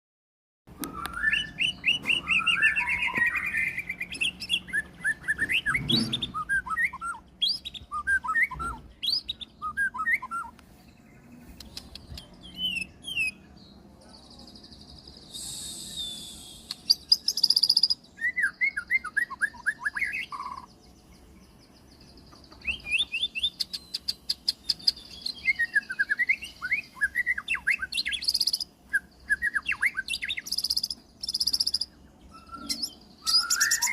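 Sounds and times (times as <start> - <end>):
shama bird singing: 0.7 - 33.9.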